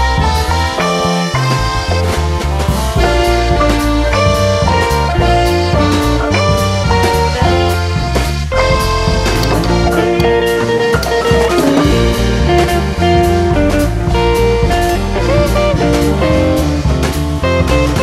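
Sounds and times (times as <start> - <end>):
bass line: 0.0 - 18.0
drum beat: 0.0 - 18.0
lead instrument bending notes: 0.0 - 18.0.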